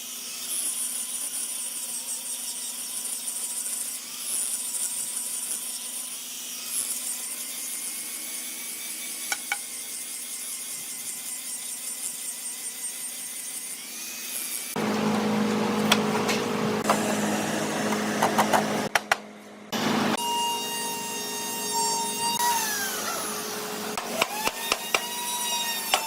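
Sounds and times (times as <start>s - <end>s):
power tool whining: 0.0s - 18.9s, 19.7s - 26.0s.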